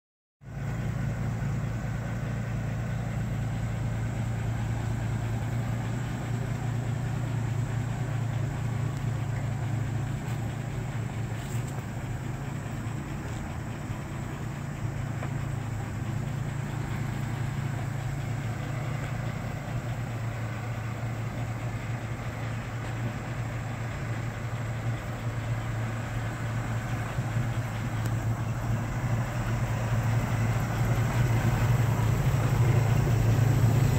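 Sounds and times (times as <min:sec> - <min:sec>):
fire engine idling: 0:00.4 - 0:33.9.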